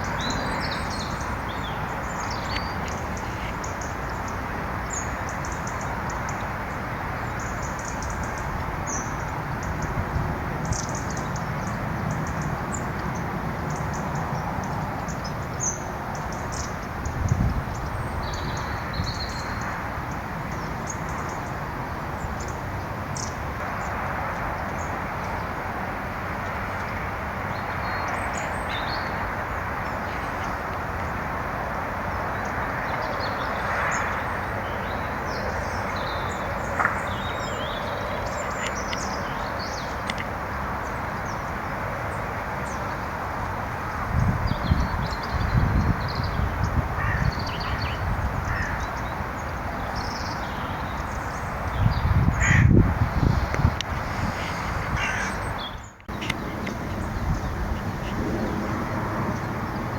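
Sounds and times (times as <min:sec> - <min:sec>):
small birds chirping: 0:00.0 - 0:10.0, 0:10.6 - 0:21.6, 0:32.0 - 0:43.5, 0:44.1 - 0:59.9
outdoor background noise: 0:00.0 - 0:59.9.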